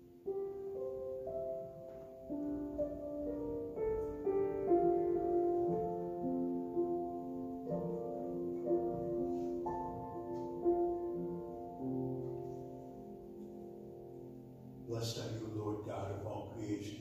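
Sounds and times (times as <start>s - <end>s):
slow keyboard chords: 0.0s - 17.0s.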